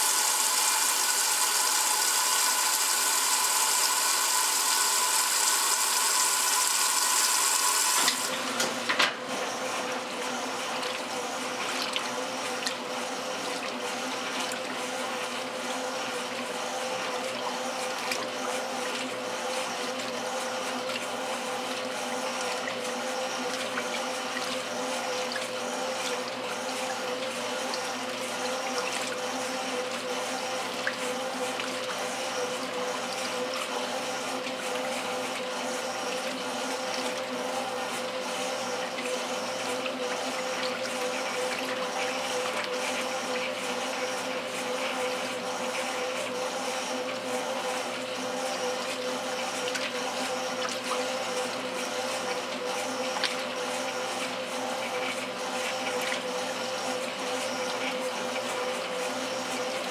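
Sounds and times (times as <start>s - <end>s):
washer motor hum: 0.0s - 59.9s
water sloshing in washer: 0.0s - 59.9s.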